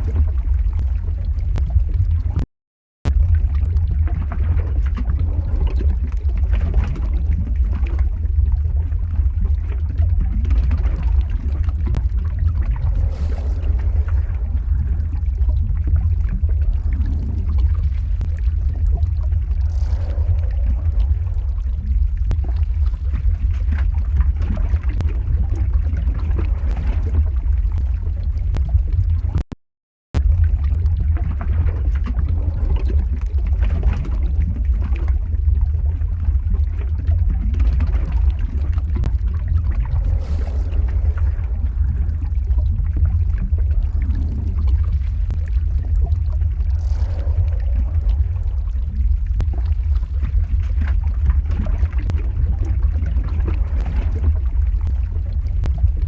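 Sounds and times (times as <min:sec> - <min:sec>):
deep rumble: 0:00.0 - 0:29.6, 0:30.2 - 0:56.0
uneven crackle: 0:03.1 - 0:29.5, 0:30.2 - 0:56.0.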